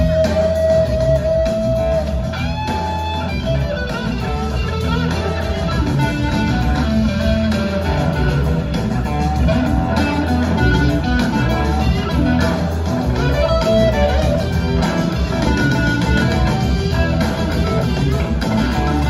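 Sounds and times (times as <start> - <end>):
blues-rock band playing: 0.0 - 19.0
electric guitar lead: 0.0 - 19.0.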